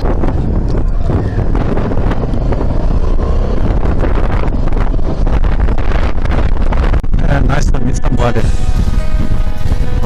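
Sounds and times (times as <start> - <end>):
motorcycle engine running: 0.0 - 7.0, 8.4 - 10.0
wind buffeting microphone: 0.0 - 10.0.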